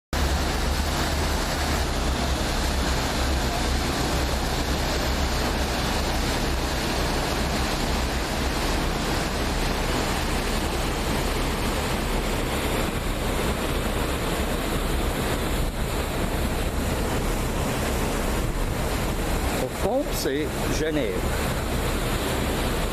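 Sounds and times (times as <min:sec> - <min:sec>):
boat engine rumble: 0:00.1 - 0:22.9
rushing water: 0:00.1 - 0:22.9
wind buffeting microphone: 0:00.2 - 0:22.9.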